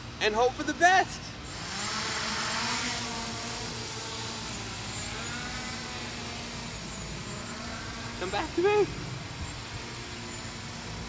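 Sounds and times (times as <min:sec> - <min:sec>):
drone motors buzzing whine: 0:01.4 - 0:11.0.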